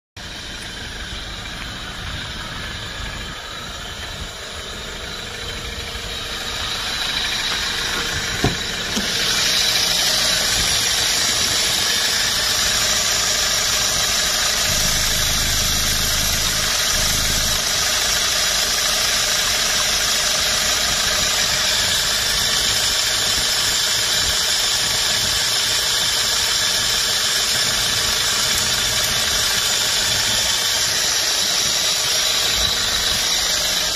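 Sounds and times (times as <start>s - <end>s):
diesel engine idling: 0.2s - 33.9s.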